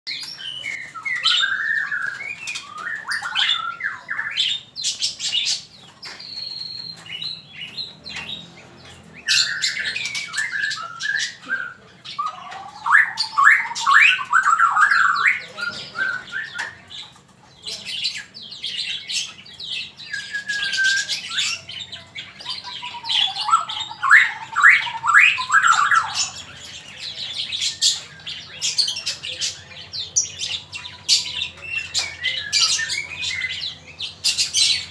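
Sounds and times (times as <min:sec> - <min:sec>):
songbird singing loudly: 0:00.1 - 0:17.0, 0:17.7 - 0:34.9.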